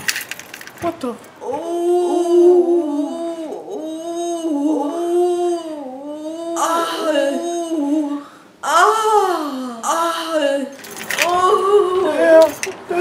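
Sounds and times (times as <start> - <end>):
woman singing wordless melody: 1.4 - 13.0.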